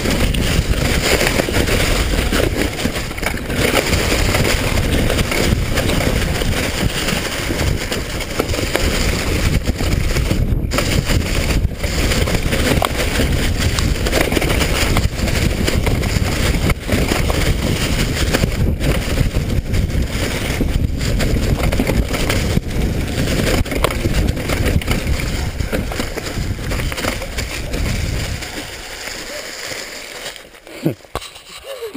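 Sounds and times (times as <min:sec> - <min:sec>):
wind buffeting microphone: 0:00.0 - 0:29.1.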